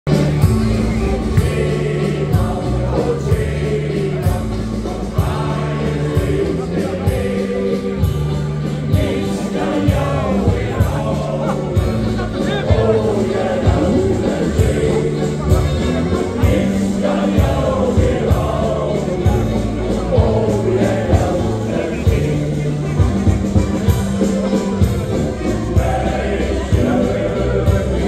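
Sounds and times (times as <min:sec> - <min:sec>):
live band drums bass and guitar: 0:00.1 - 0:28.0
male choir singing: 0:00.7 - 0:23.4, 0:25.2 - 0:28.0.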